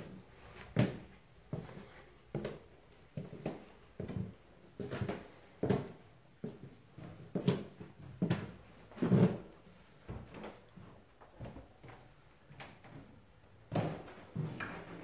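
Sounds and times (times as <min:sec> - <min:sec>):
footsteps on hardwood floor: 0:00.0 - 0:15.0.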